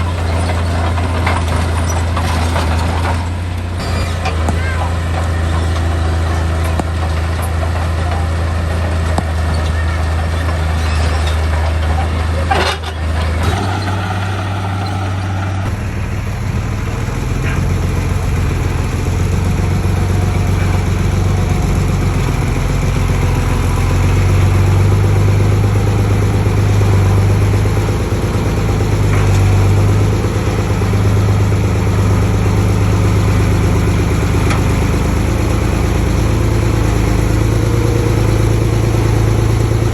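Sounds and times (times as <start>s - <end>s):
heavy diesel machine engine running: 0.0s - 39.9s.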